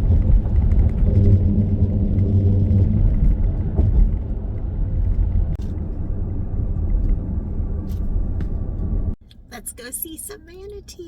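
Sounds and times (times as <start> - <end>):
vehicle driving over bumpy road: 0.0 - 9.2.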